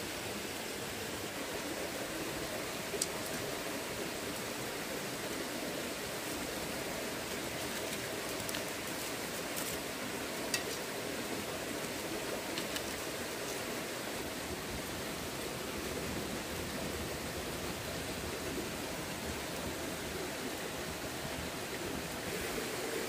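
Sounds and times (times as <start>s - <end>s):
stream flowing: 0.0s - 23.0s.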